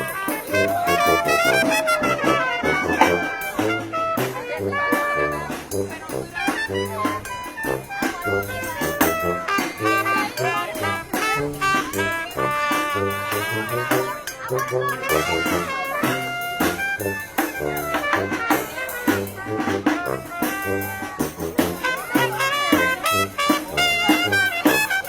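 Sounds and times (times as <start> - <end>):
brass band playing upbeat tune: 0.0 - 25.0.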